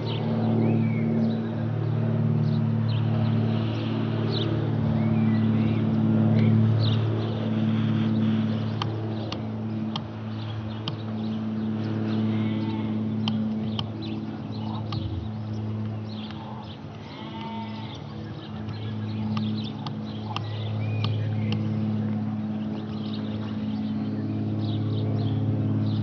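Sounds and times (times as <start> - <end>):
propeller plane droning overhead: 0.0 - 26.0.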